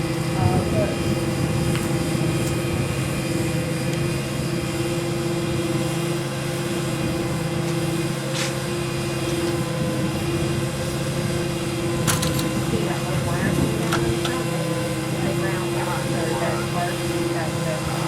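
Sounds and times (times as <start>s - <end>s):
steady machine drone: 0.0s - 18.0s.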